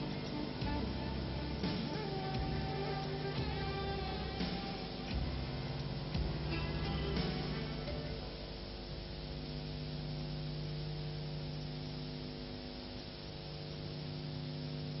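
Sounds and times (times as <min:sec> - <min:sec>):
electrical mains hum: 0:00.0 - 0:15.0
tape hiss: 0:00.0 - 0:15.0.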